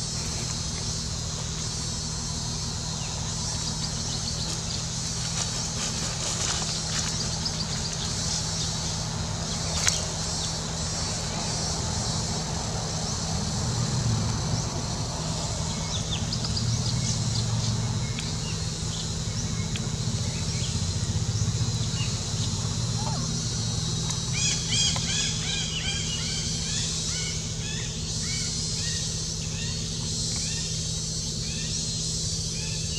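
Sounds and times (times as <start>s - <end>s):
insects chirring: 0.0s - 32.9s
low steady hum: 0.0s - 32.9s.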